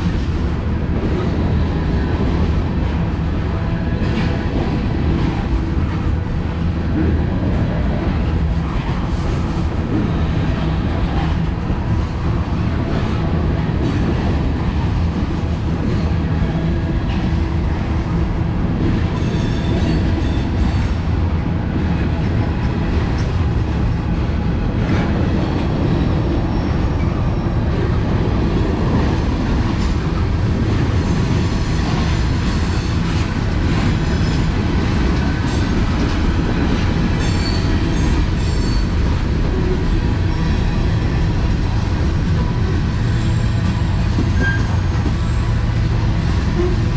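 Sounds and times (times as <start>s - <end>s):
steel wheels rumbling on rail: 0.0s - 46.9s.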